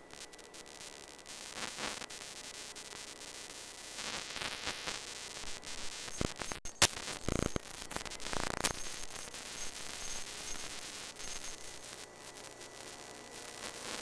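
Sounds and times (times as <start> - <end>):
television static hiss and crackle: 0.0 - 14.0.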